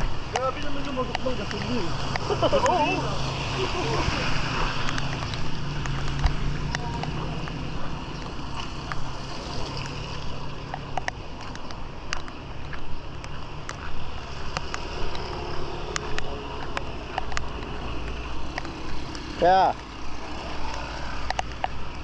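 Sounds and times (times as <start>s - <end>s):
raindrops ticking close by: 0.0s - 22.0s
steady rain: 0.0s - 22.0s.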